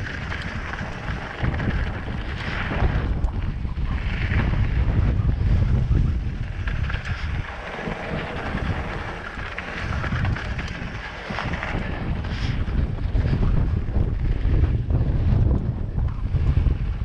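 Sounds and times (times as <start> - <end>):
bike rattles and clicks: 0.0 - 17.0
bike tyres rolling on dirt: 0.0 - 17.0
wind buffeting microphone: 0.0 - 17.0.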